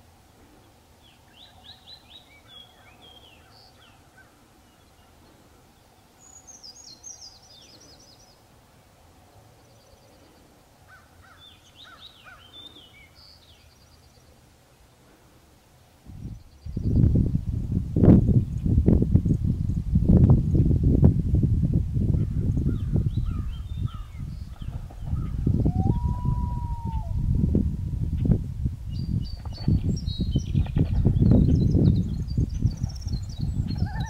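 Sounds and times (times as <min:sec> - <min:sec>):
songbirds singing: 0:00.0 - 0:17.4, 0:18.3 - 0:20.8, 0:22.1 - 0:27.4, 0:28.0 - 0:34.0
steady low background noise: 0:00.0 - 0:29.4.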